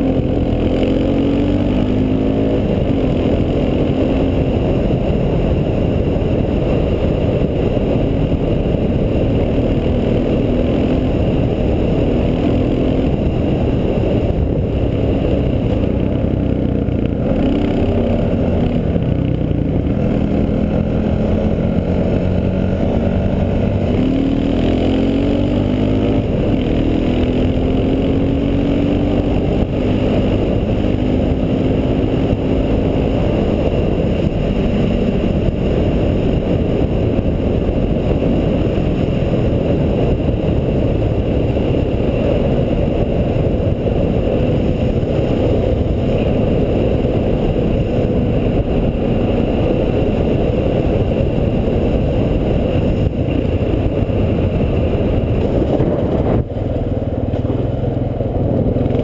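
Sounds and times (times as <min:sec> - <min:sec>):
atv engine running: 0:00.0 - 0:59.0
road rumble: 0:00.0 - 0:59.0
wind: 0:00.0 - 0:59.0.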